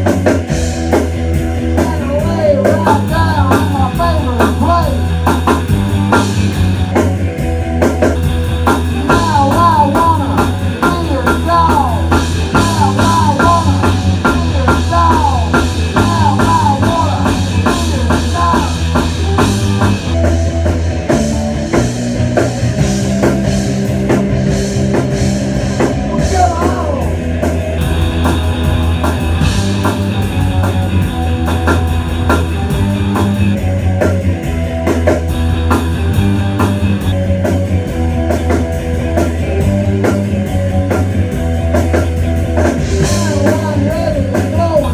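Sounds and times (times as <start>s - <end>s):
distorted electric guitars: 0.0s - 44.9s
steady drum beat: 0.0s - 44.9s.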